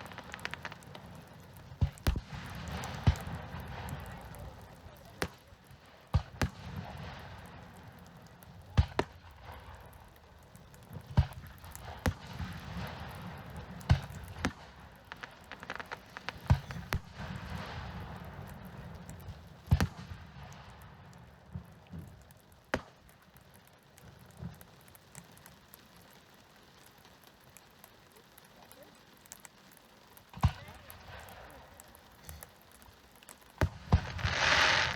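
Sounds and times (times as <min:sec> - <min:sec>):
fireworks bursting with bangs: 0:00.0 - 0:34.9
fireworks crackling: 0:00.0 - 0:34.9.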